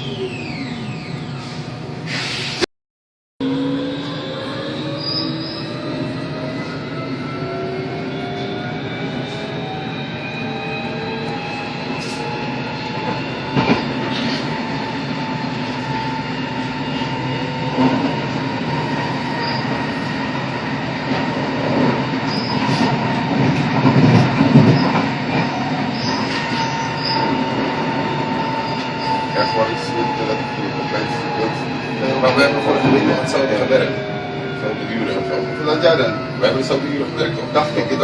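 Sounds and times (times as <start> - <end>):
train whine: 0.0 - 2.6, 3.4 - 38.0
train running noise: 5.7 - 38.0.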